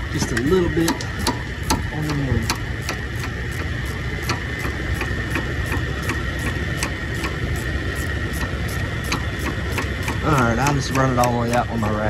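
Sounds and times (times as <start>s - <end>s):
even ticking: 0.0s - 12.0s
high fan whine: 0.0s - 12.0s
shop fans rumbling: 0.0s - 12.0s.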